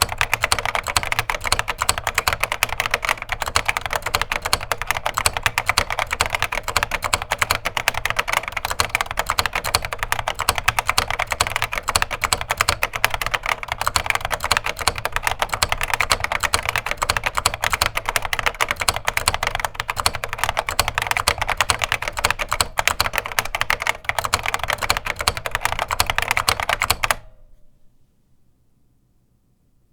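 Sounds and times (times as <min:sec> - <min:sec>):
fast keyboard typing: 0:00.0 - 0:27.3.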